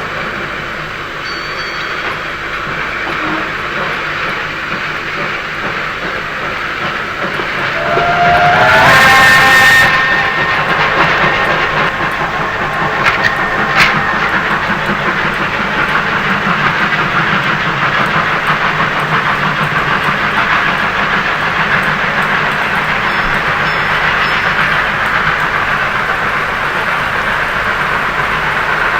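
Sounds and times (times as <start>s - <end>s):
model train whistle: 0.0s - 5.0s, 7.2s - 28.9s
rhythmic steam running sound: 0.0s - 28.9s.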